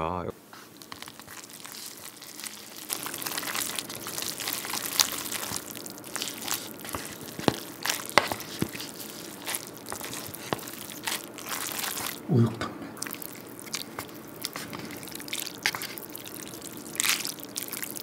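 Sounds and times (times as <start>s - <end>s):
chopsticks stirring noodles in cup: 0.5s - 12.2s, 13.0s - 18.0s.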